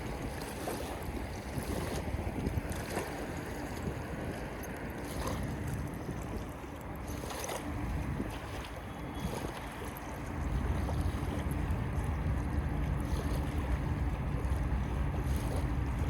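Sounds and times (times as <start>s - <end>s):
faint droning motor hum: 0.0s - 16.0s
steady low rumble: 0.0s - 16.0s
wind on microphone: 0.0s - 16.0s.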